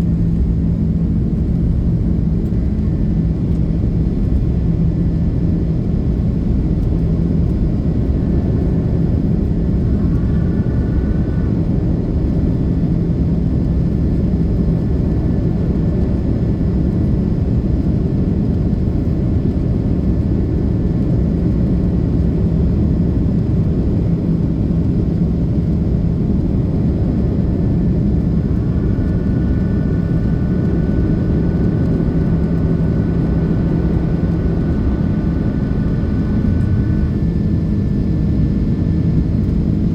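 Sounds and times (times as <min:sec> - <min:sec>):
jet engine low rumble: 0:00.0 - 0:39.9.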